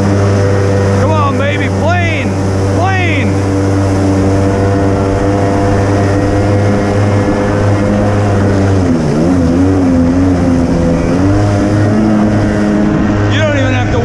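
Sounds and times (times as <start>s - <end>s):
jet ski engine at high revs: 0.0s - 14.0s.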